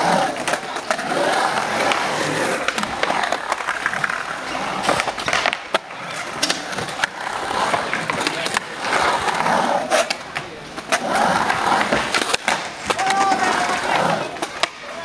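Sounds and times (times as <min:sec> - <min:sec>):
skateboard clacks: 0:00.0 - 0:15.0
skateboard wheels rolling on concrete: 0:00.0 - 0:15.0.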